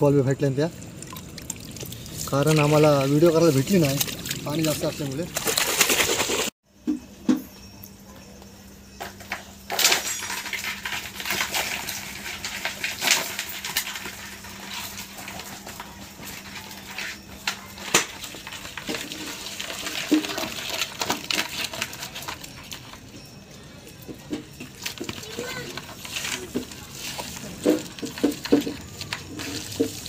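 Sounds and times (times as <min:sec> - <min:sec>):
wet shrimp clicking and rustling: 0:00.8 - 0:06.5, 0:10.7 - 0:23.2, 0:23.9 - 0:30.0.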